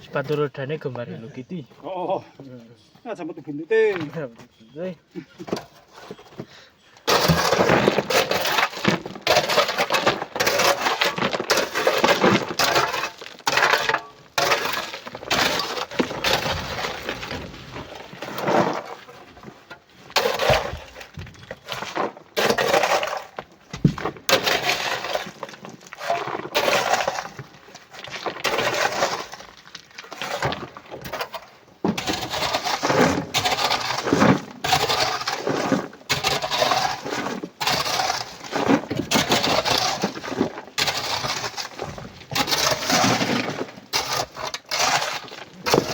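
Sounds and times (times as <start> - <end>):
rock pieces tumbling and clattering: 7.0 - 45.9.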